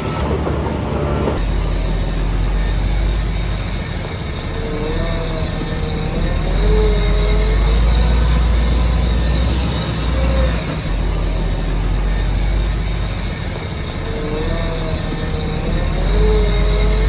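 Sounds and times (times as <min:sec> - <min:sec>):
diesel engine rumble: 0:00.0 - 0:17.0.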